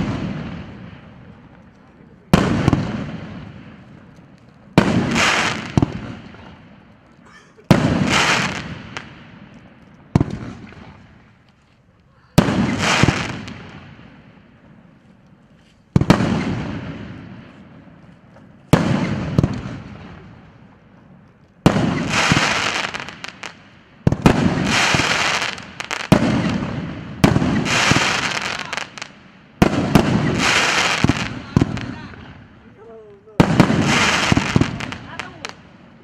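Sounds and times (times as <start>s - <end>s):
fireworks bursts with crackling: 0.0s - 36.0s.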